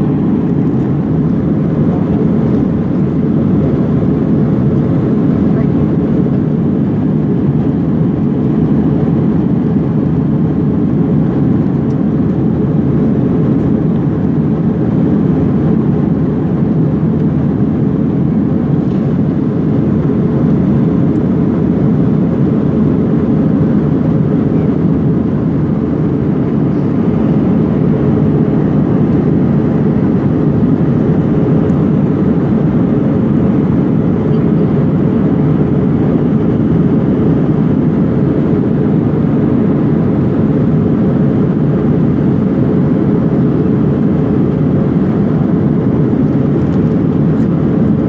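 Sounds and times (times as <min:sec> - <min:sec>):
jet engine and airflow roar: 0:00.0 - 0:48.0.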